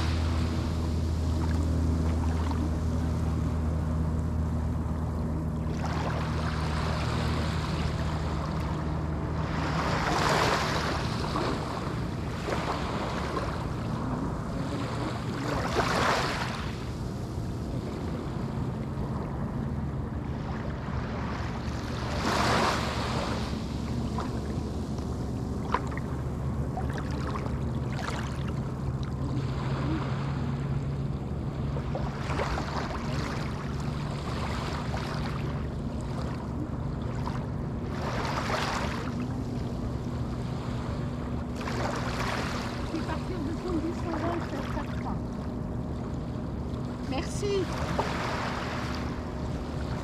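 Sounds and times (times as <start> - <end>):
steady low hum: 0.0 - 50.0
waves breaking on beach: 0.0 - 50.0.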